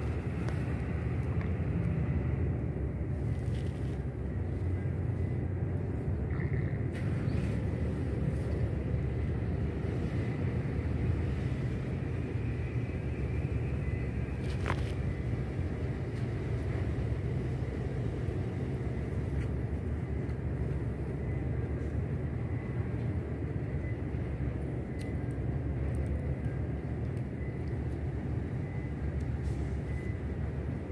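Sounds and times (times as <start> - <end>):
low outdoor rumble: 0.0 - 30.9.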